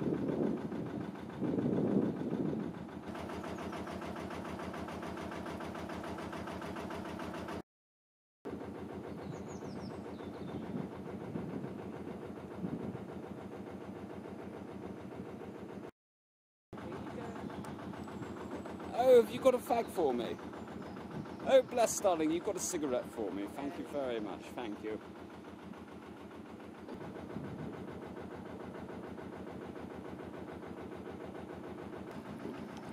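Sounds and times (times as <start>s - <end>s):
boat diesel engine running: 0.0s - 7.6s, 8.5s - 15.9s, 16.8s - 32.9s.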